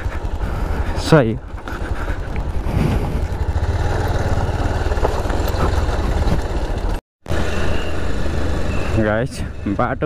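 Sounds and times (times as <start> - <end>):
motorcycle engine running: 0.0 - 10.0
road and wind noise: 0.0 - 10.0.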